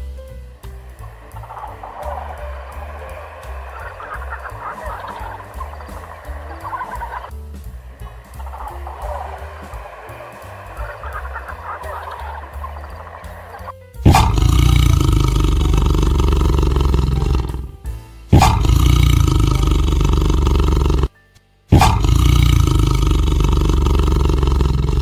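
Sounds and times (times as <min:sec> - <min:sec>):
tiger roaring: 0:01.1 - 0:07.3, 0:08.1 - 0:21.1, 0:21.7 - 0:25.0.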